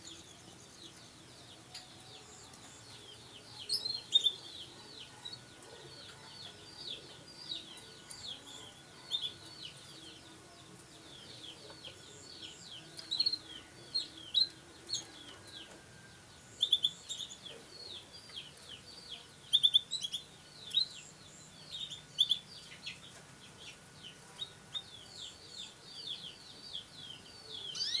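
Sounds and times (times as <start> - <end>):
canaries chirping: 0.0 - 28.0.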